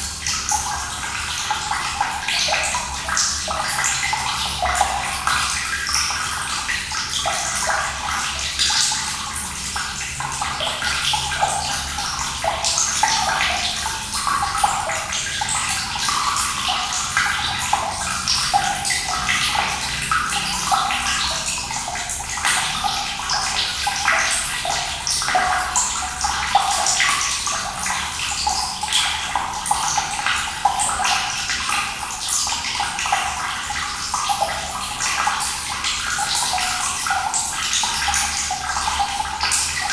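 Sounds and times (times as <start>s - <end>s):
running water splashing: 5.4s - 39.9s.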